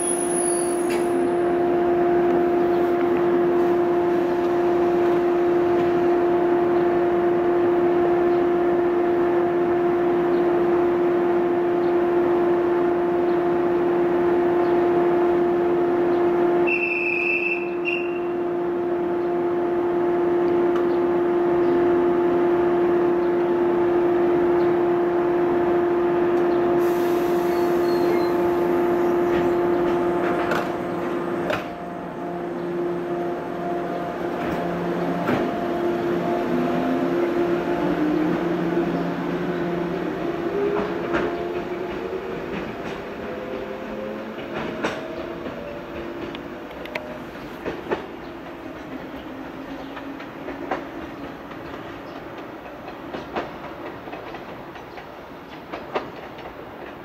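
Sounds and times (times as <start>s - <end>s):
electric train humming: 0.0s - 55.5s.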